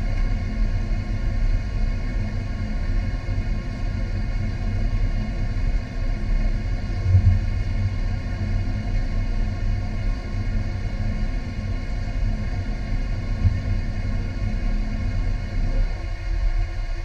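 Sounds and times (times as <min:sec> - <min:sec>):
faint even hum: 0:00.0 - 0:17.0
low rumble: 0:00.0 - 0:17.0.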